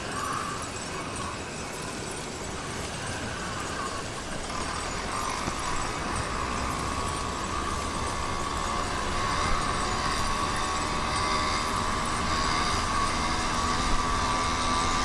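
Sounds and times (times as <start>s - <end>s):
motorized bicycle engine whine: 0.1s - 15.0s
wind and road noise: 1.4s - 15.0s.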